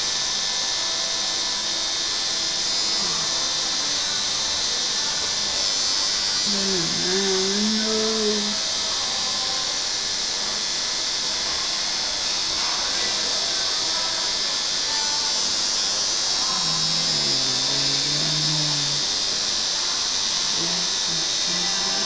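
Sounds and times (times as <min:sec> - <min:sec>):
tattoo machine buzzing: 0:00.0 - 0:22.0.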